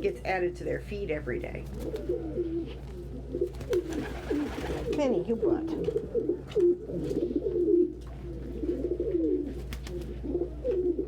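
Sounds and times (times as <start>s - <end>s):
pigeons cooing: 1.6s - 11.0s.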